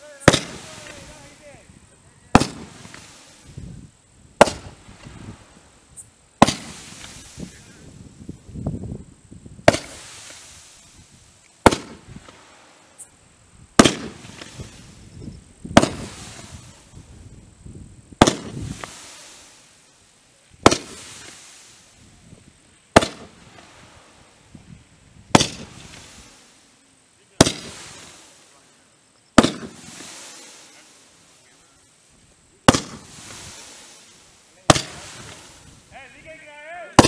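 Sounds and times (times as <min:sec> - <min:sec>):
fireworks bangs: 0:00.0 - 0:03.8, 0:04.4 - 0:05.8, 0:06.4 - 0:08.5, 0:09.6 - 0:13.1, 0:13.7 - 0:17.4, 0:18.2 - 0:26.7, 0:27.3 - 0:31.9, 0:32.6 - 0:37.0
fireworks hiss: 0:00.0 - 0:37.0.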